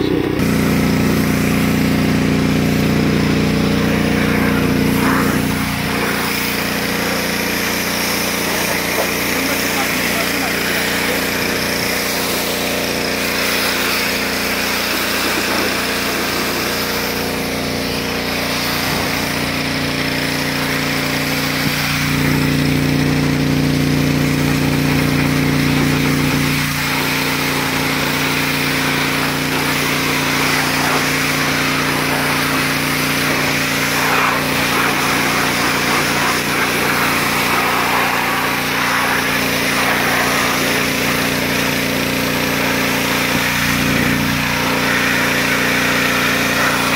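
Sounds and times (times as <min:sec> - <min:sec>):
pressure washer motor hum: 0:00.0 - 0:46.9
water jet hissing on car: 0:00.4 - 0:46.9.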